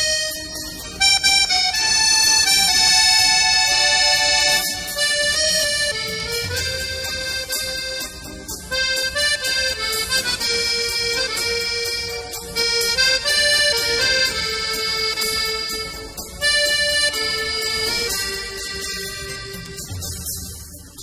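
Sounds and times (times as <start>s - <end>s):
reedy instrumental melody: 0.0s - 21.0s.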